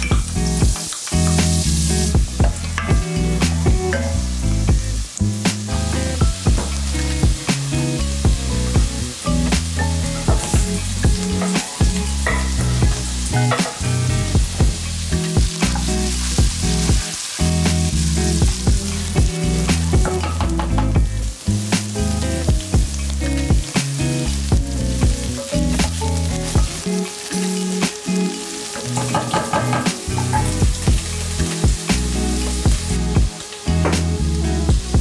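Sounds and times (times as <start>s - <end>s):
soft background music: 0.0s - 35.0s
vegetables sizzling in a pot: 0.0s - 35.0s.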